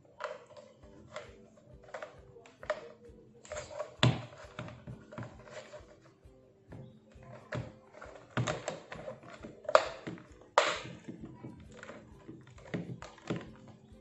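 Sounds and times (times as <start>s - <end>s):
plastic parts tapping and knocking: 0.0s - 14.0s
plastic scrape: 0.2s - 6.1s, 7.2s - 13.8s.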